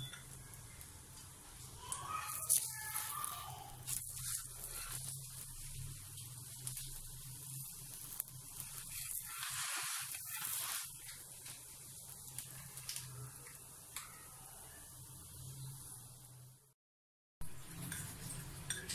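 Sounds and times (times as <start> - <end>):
oil sizzling in pan: 0.0 - 16.8, 17.4 - 18.9.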